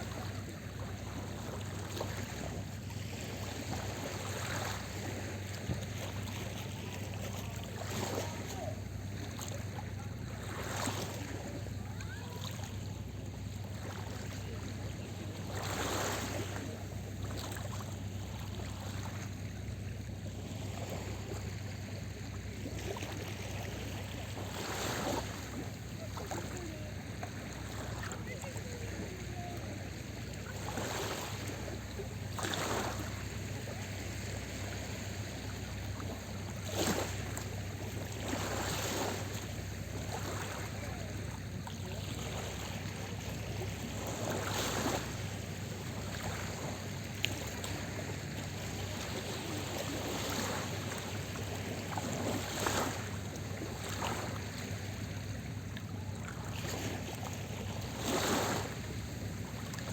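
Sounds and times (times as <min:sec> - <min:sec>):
sea waves breaking on shore: 0:00.0 - 0:59.9
steady low hum: 0:00.0 - 0:59.9.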